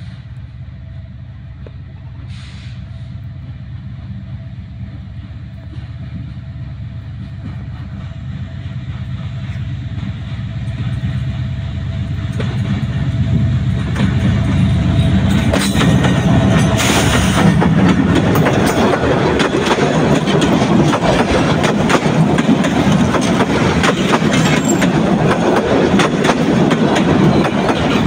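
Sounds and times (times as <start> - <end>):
diesel train approaching rumble: 0.0 - 28.0.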